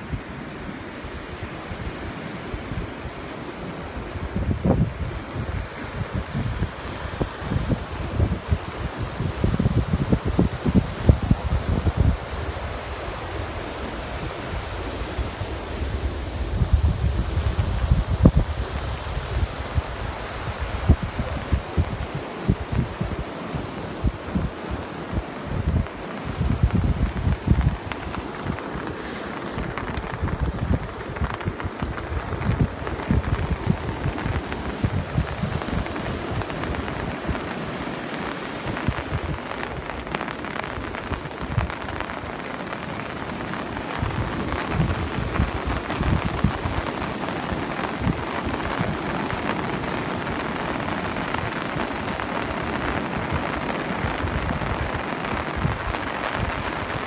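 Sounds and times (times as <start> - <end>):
ocean surf breaking: 0.0 - 57.0
wind buffeting microphone: 0.0 - 57.0.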